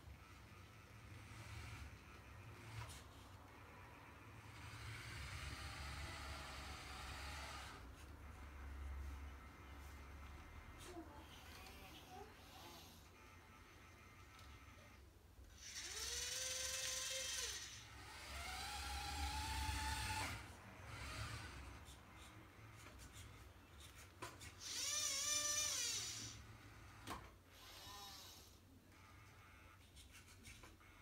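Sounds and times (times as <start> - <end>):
small electric motors whining: 0.0 - 23.0, 24.5 - 29.8.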